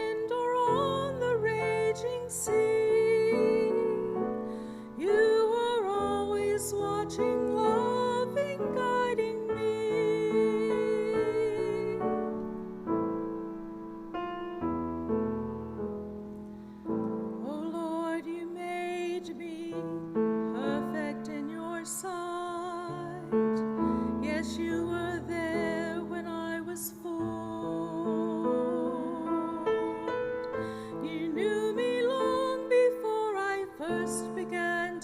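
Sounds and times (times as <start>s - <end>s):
person singing with vibrato: 0.0s - 12.4s, 17.3s - 35.0s
slow sacred piano song: 0.0s - 35.0s.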